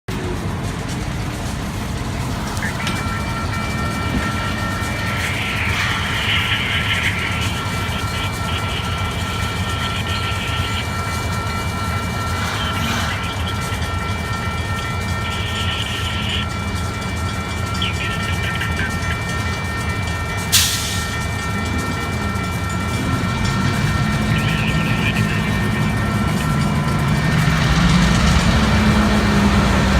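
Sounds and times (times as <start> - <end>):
diesel locomotive engines: 0.1 - 29.9
crossing signal bell ringing: 1.6 - 29.7.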